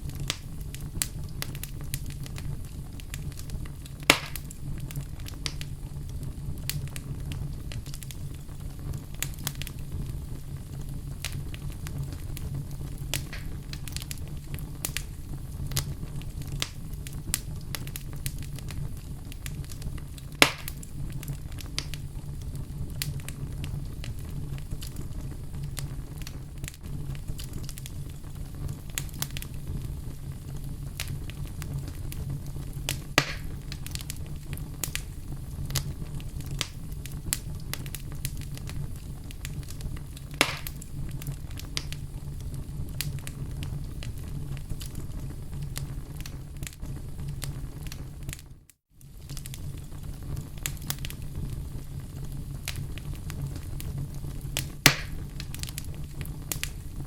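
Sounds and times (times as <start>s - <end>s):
fire pops: 0.0s - 57.0s
wood fire crackling: 0.0s - 57.0s.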